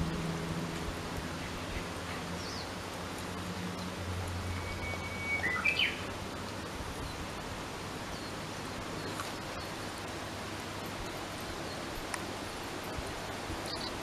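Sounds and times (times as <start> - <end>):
songbird singing: 0.0 - 14.0
steady outdoor hiss: 0.0 - 14.0.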